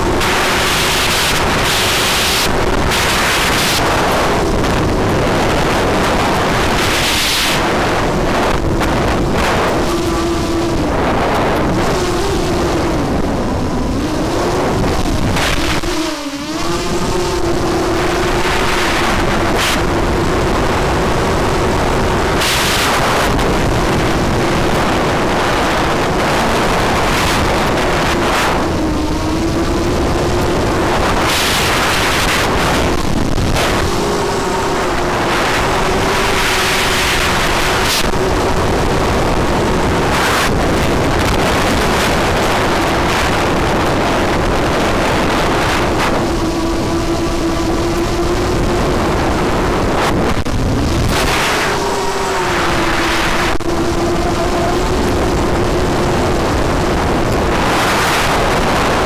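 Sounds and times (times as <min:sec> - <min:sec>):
drone motors droning: 0:00.0 - 0:59.0
wind rushing over microphone: 0:00.0 - 0:59.0.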